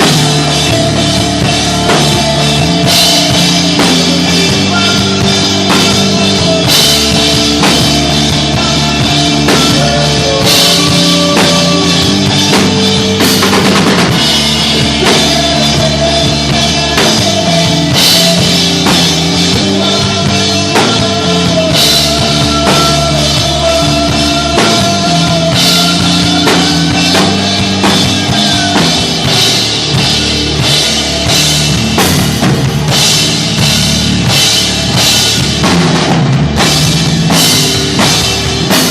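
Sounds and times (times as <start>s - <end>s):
distorted guitar and bass: 0.0s - 38.9s
drum kit beat: 0.0s - 38.9s.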